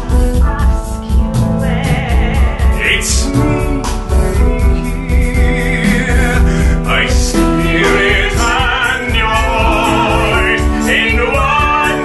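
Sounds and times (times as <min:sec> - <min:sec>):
instrumental accompaniment with beat: 0:00.0 - 0:12.0
woman and man singing duet: 0:01.6 - 0:12.0.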